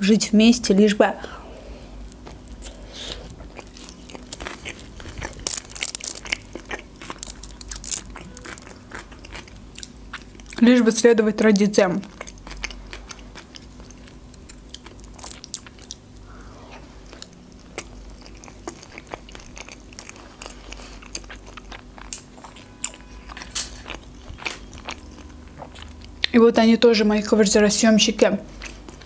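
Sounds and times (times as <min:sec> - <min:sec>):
person chewing with mouth closed: 0:01.3 - 0:10.6, 0:12.0 - 0:26.3.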